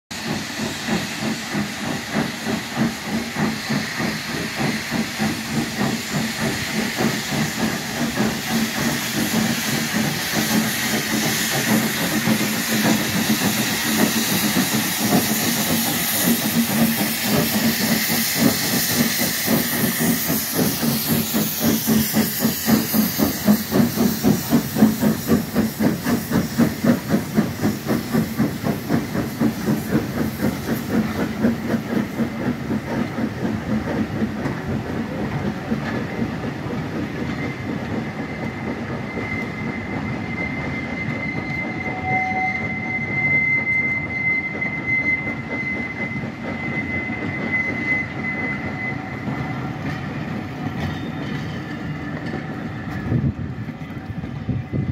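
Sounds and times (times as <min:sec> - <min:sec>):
steam hissing: 0:00.1 - 0:54.9
steam locomotive exhaust chuffs: 0:00.1 - 0:54.9
train coaches rolling past: 0:00.1 - 0:54.9.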